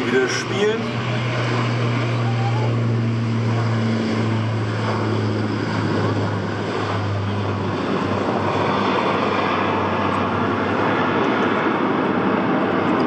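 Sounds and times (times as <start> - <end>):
low hum: 0.0 - 13.0
turboprop engines drone: 0.0 - 13.0.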